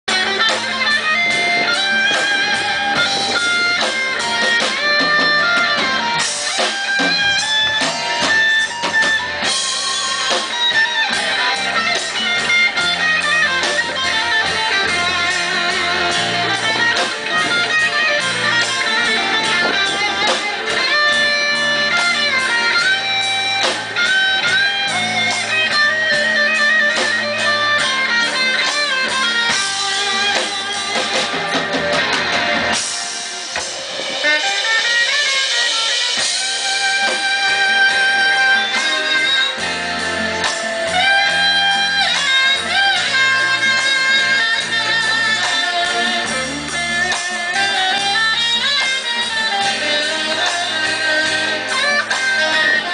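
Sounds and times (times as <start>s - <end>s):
live rock band playing: 0.0s - 52.9s.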